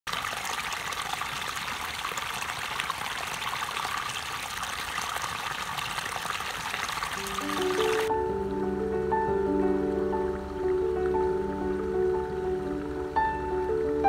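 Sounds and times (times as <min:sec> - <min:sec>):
water bubbling: 0:00.1 - 0:14.0.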